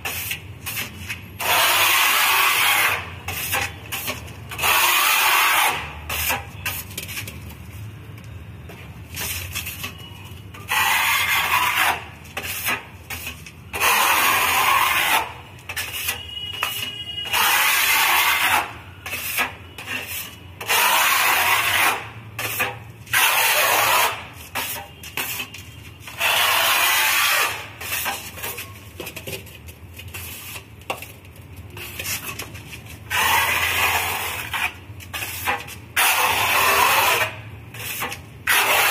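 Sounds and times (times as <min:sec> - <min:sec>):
putty knife scraping a wall: 0:00.0 - 0:07.3, 0:09.2 - 0:25.5, 0:26.1 - 0:31.0, 0:31.8 - 0:38.9.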